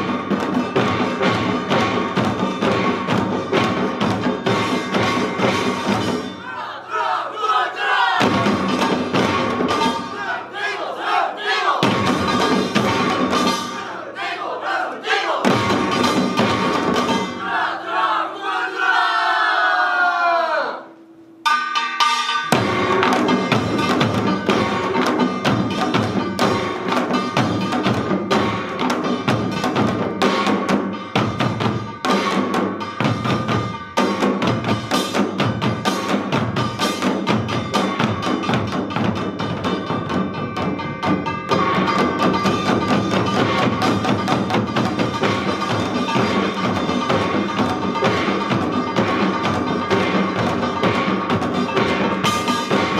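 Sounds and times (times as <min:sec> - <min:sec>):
percussion ensemble drumming: 0:00.0 - 0:18.4, 0:21.4 - 0:52.9.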